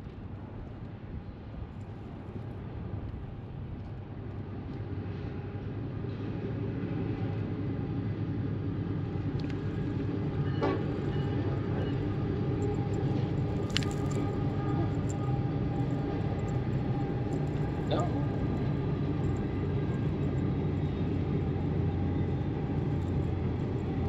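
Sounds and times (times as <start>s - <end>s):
mechanical rumble with hum: 0.0s - 24.0s.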